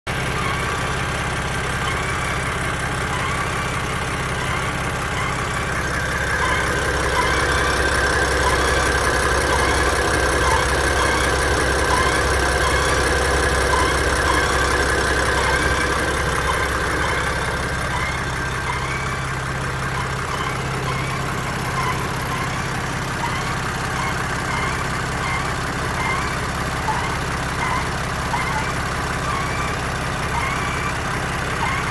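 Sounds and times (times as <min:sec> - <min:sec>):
car engine idling: 0:00.1 - 0:31.9.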